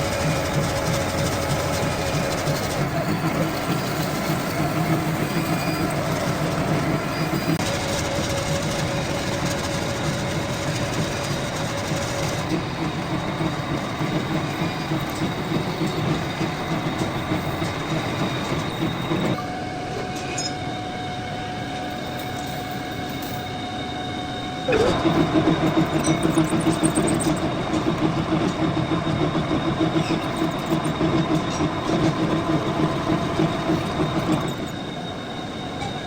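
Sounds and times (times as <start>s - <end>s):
metal lathe cutting metal: 0.0s - 36.0s.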